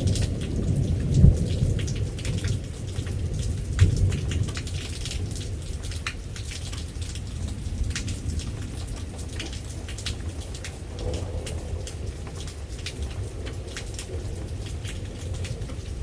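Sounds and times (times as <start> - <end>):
low thunder rumble: 0.0 - 16.0
raindrops clicking close by: 0.0 - 16.0
steady rain falling: 0.0 - 16.0.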